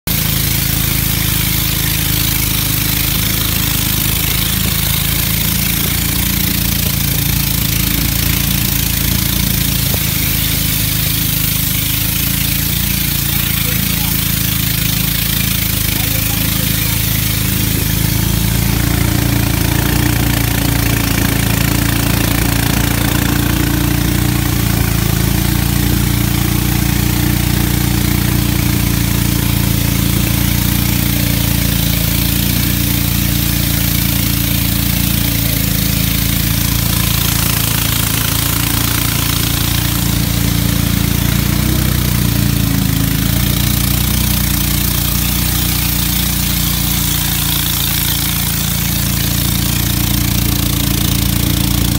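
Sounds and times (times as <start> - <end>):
boat engine running steadily: 0.0 - 51.9
water rushing past hull: 0.1 - 51.9.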